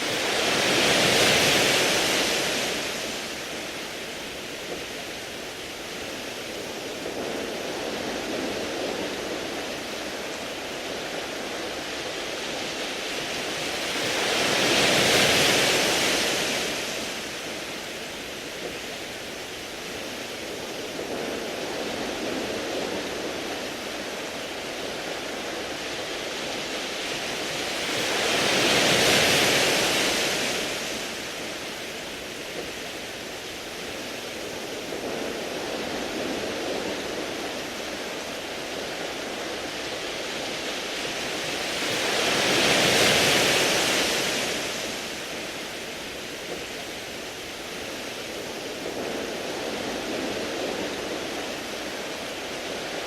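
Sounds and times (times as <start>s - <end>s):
waves washing onto pebbles: 0.0s - 53.0s.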